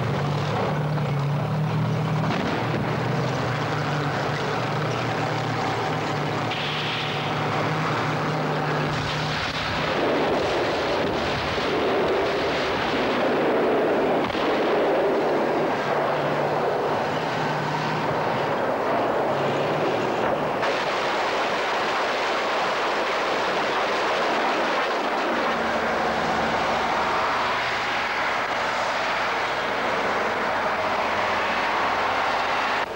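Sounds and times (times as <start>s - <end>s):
heavy military vehicle engines: 0.0s - 32.9s.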